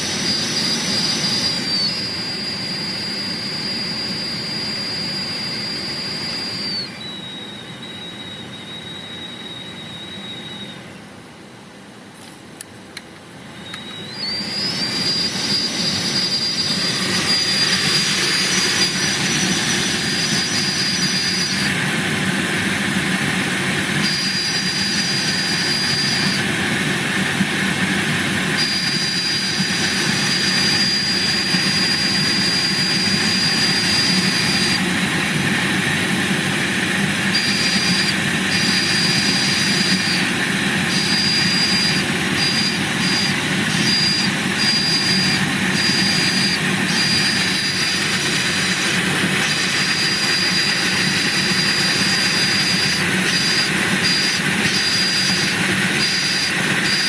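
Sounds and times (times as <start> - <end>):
high-pitched fan whistle: 0.0 - 11.2, 13.4 - 57.0
heater blower fan rushing air: 0.0 - 57.0.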